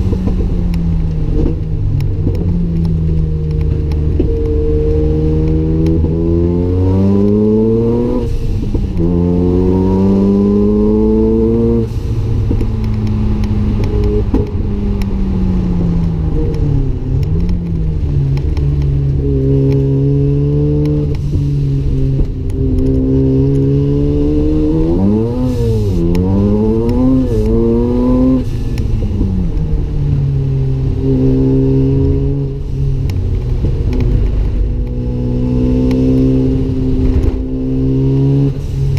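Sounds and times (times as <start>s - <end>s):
rotary engine accelerating: 2.2s - 38.9s.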